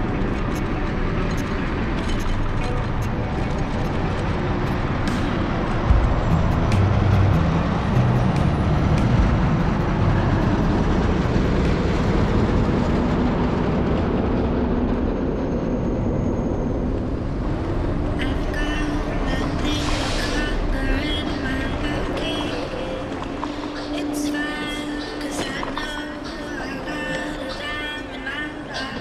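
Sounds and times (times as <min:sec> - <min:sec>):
cable car running on rails: 0:00.0 - 0:29.0.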